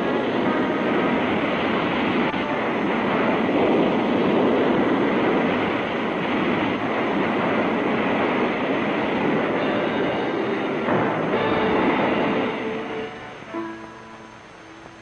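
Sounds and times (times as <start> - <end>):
rushing floodwater: 0.0 - 14.8.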